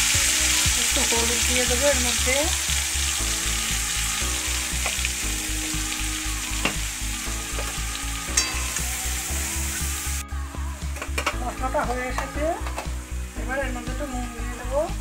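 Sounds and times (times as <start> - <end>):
spice paste sizzling in hot oil: 0.0 - 15.0.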